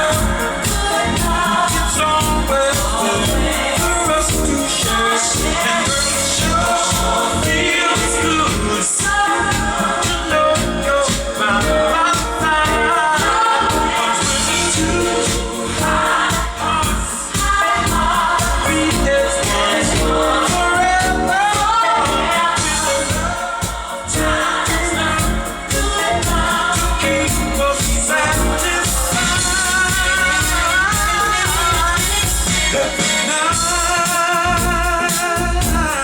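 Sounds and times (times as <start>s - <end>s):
pop song with singing: 0.0s - 36.0s.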